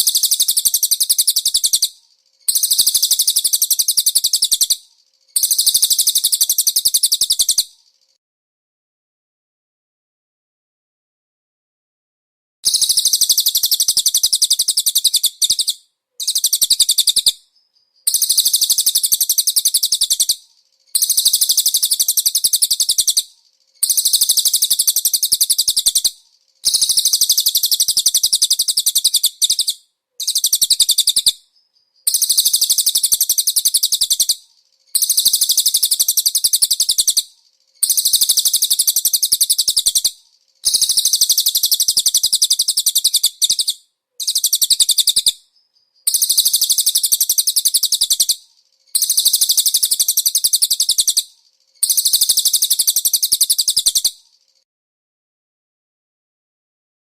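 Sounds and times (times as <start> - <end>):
bird singing high-pitched trill: 0.0 - 8.2, 12.7 - 54.6.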